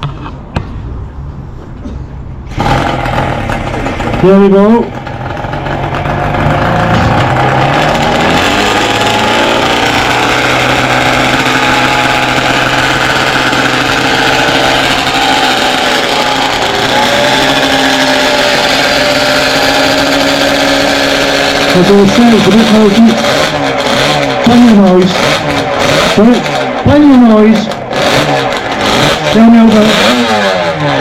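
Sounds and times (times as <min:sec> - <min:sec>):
two-stroke racing engine running: 0:02.4 - 0:31.0.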